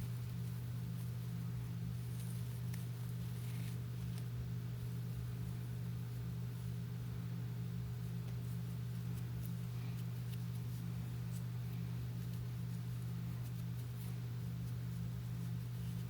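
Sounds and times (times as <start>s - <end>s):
light ticks and rustles: 0.0s - 6.8s, 8.0s - 16.0s
low electrical hum: 0.0s - 16.0s.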